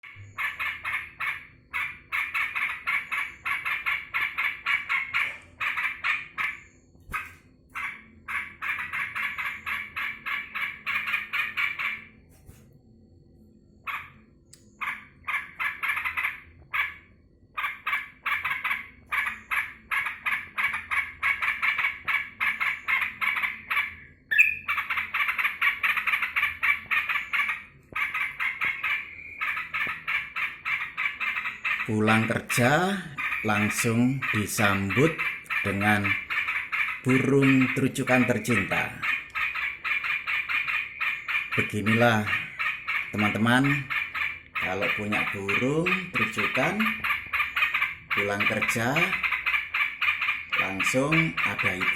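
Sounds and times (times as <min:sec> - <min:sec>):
bird chattering rapidly: 0:00.0 - 0:12.2, 0:14.8 - 0:17.0, 0:17.6 - 0:51.9.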